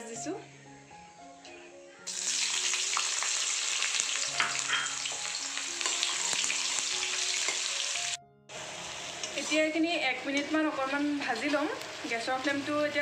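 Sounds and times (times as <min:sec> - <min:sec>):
faint background music: 0:00.0 - 0:13.0
onions sizzling in hot oil: 0:02.1 - 0:13.0.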